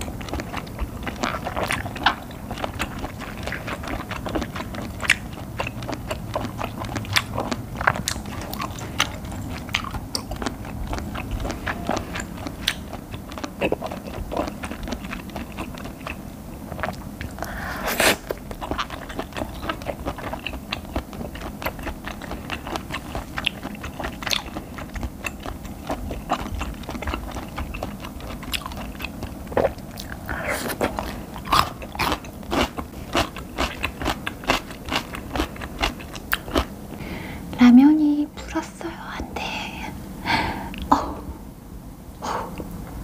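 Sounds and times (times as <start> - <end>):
chewing food: 0.0 - 37.2.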